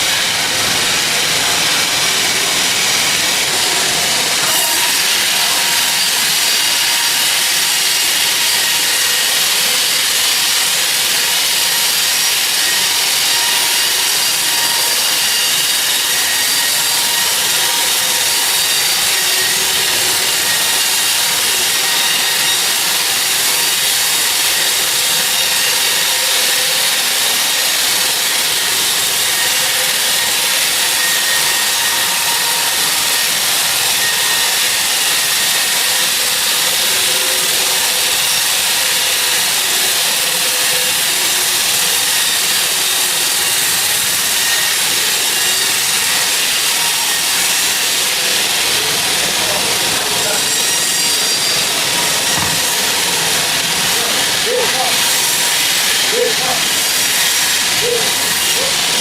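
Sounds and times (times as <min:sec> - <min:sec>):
saw rasping through log: 0:00.0 - 0:59.0.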